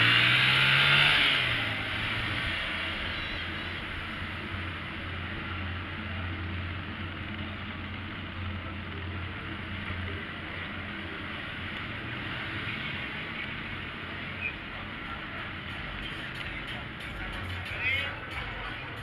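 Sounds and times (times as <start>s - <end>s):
street traffic hiss: 0.0s - 19.0s
vehicle engine low hum: 0.0s - 19.0s.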